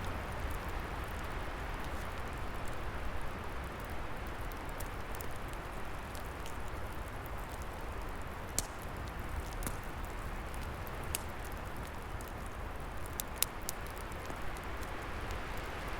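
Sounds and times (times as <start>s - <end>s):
wood fire crackling and popping: 0.1s - 15.9s.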